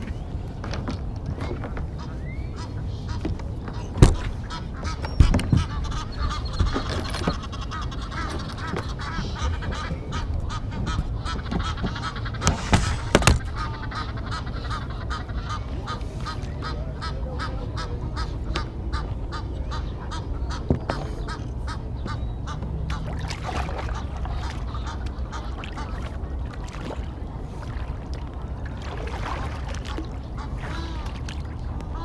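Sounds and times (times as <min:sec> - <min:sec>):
steady low rumble: 0:00.0 - 0:32.0
waterfowl honking: 0:01.5 - 0:32.0.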